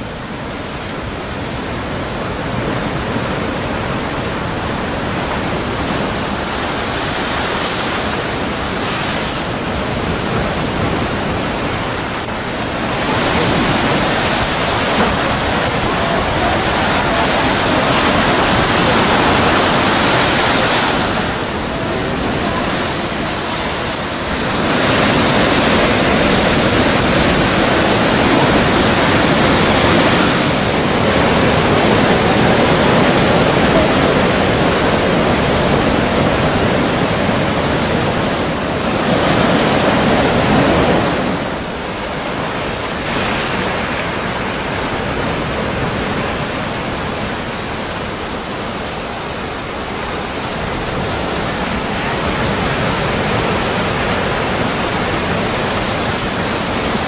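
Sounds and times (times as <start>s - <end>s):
strong wind: 0.0s - 57.0s
surf: 0.0s - 57.0s.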